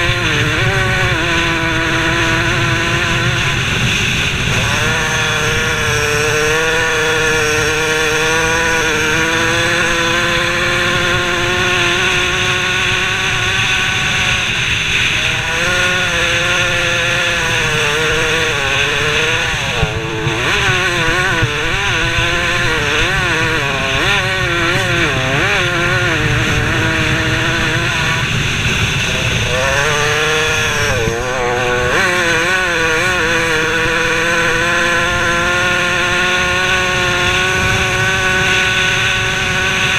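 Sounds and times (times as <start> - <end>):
motorbike engine at high revs: 0.0 - 39.9
wind rumbling on microphone: 0.0 - 39.9.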